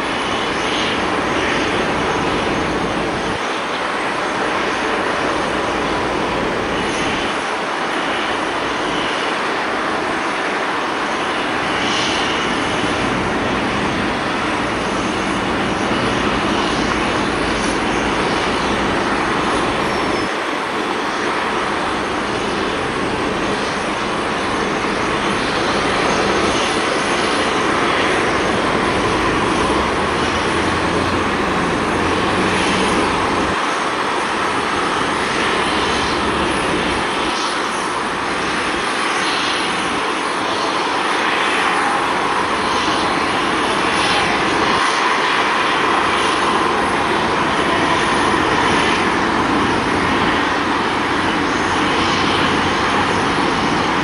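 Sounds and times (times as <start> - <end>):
jet engine hissing: 0.0 - 54.0.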